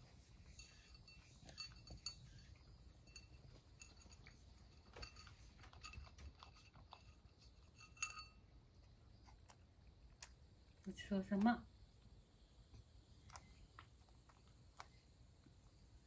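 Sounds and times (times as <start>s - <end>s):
cat eating from bowl: 0.0s - 16.0s.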